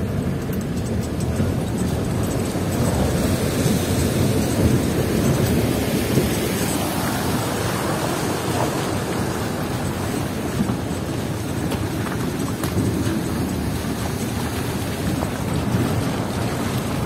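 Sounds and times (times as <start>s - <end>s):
jeep rumbling over rocky track: 0.0s - 17.0s.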